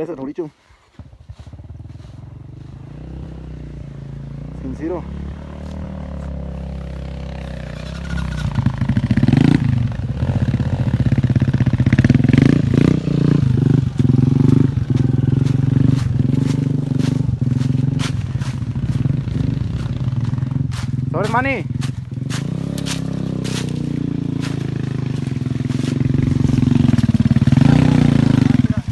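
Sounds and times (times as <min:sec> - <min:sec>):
motorcycle engine revving: 0:00.9 - 0:28.9.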